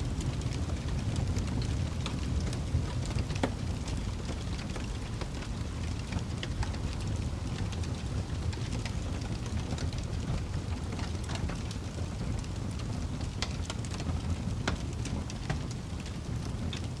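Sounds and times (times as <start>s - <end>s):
fire crackling: 0.0s - 17.0s
low rumble of flames: 0.0s - 17.0s.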